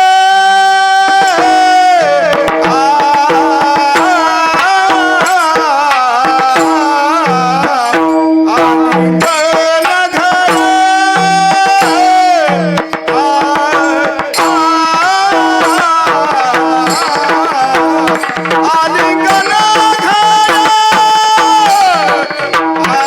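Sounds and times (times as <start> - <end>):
man singing devotional song: 0.0 - 23.0.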